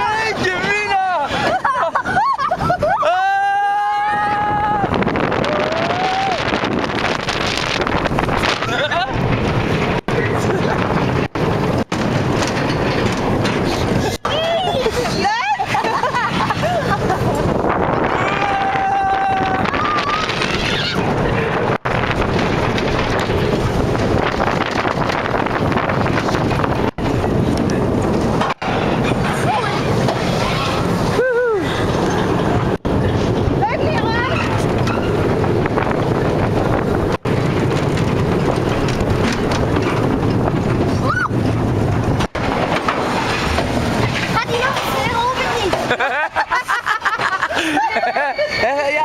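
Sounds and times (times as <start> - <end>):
bobsled coaster car rumbling: 0.0 - 49.0
wind buffeting microphone: 0.0 - 49.0.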